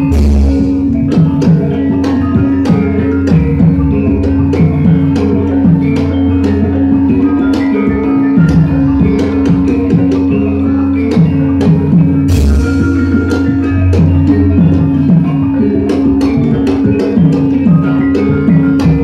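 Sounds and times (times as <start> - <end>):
drum pattern: 0.0 - 19.0
gamelan music: 0.0 - 19.0.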